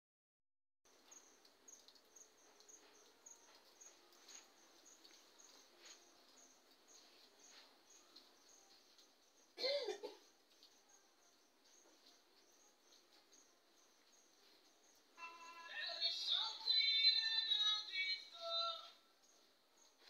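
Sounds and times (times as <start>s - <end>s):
faint high-pitched chirp: 1.0s - 20.0s.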